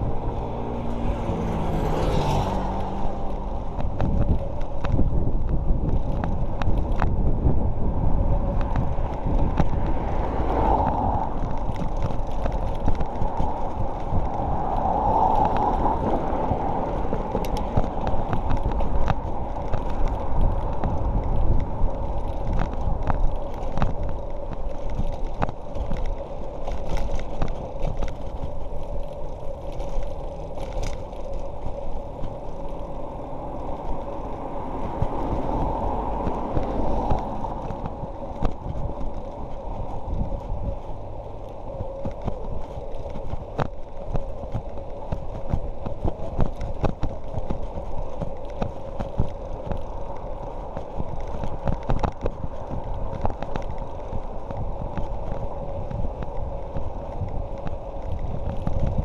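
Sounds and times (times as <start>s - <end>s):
bike clicks and rattles: 0.0s - 59.0s
wind and road rumble: 0.0s - 59.0s.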